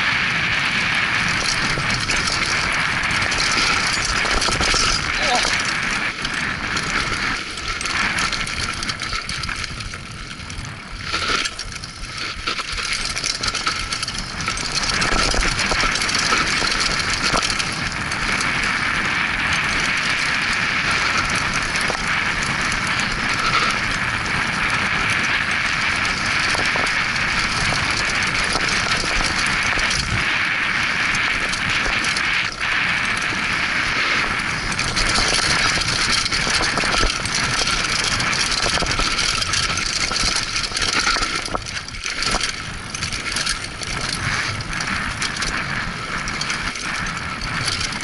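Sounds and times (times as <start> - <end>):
bike rattling over bumps: 0.0 - 48.0
wind noise on microphone: 0.0 - 48.0
tyres crunching over gravel: 0.2 - 48.0.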